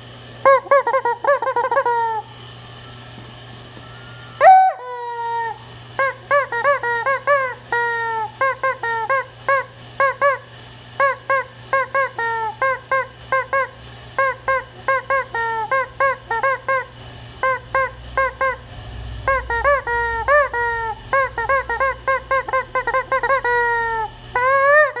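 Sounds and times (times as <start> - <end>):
rubber chicken toy squawking: 0.4 - 2.3, 4.4 - 18.7, 19.3 - 25.0.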